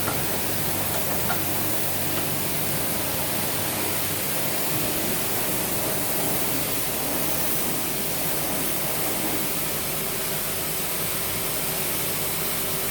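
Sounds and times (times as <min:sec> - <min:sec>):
lathe running with hiss: 0:00.0 - 0:12.9.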